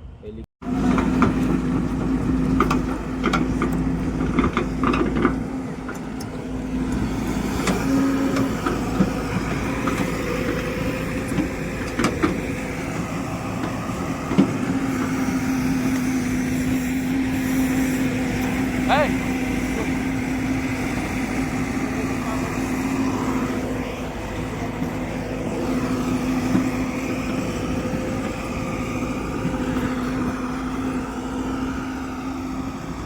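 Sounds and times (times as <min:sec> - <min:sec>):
heavy vehicle engine humming: 0:00.0 - 0:33.0.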